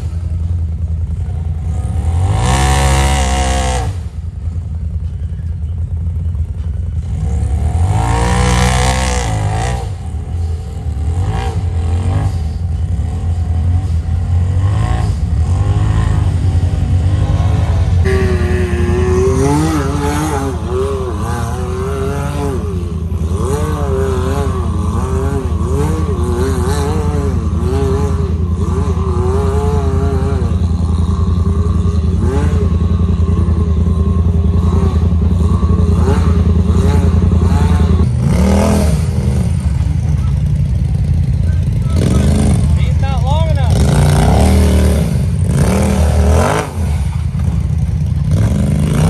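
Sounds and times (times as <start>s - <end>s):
utility vehicle engine droning: 0.0s - 49.0s.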